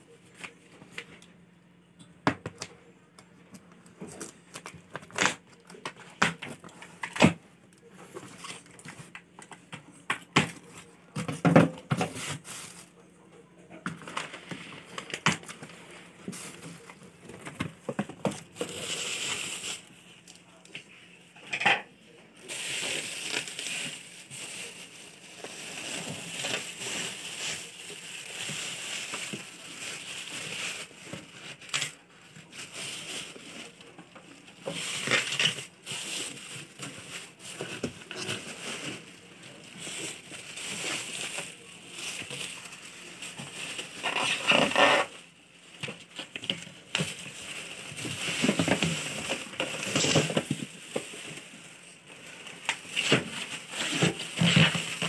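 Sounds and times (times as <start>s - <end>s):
plastic wrapping crinkling: 4.1s - 13.0s, 13.8s - 20.6s, 22.3s - 55.0s.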